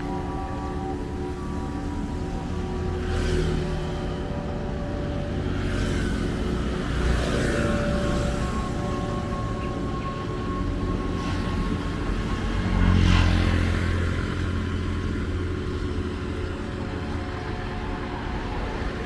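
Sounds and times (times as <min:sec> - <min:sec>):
road traffic passing: 0:00.0 - 0:19.0
vehicle passing close: 0:00.0 - 0:19.0.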